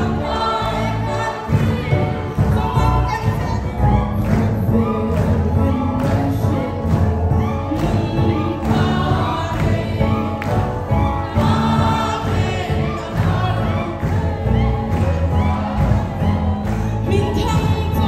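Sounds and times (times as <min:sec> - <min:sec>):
congregation singing: 0:00.0 - 0:18.0.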